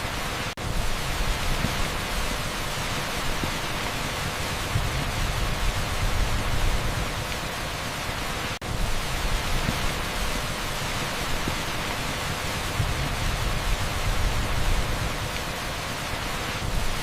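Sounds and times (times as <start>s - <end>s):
torrential rain on asphalt: 0.0s - 17.0s.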